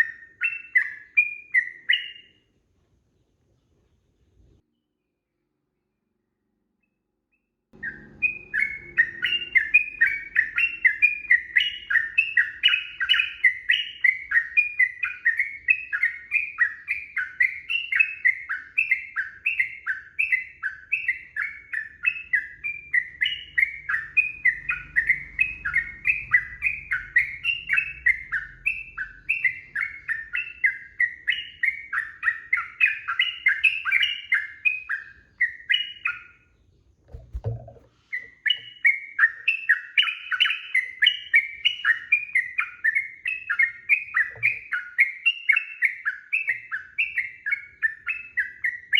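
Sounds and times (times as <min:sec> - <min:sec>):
bird singing quick chirps: 0:07.8 - 0:48.9.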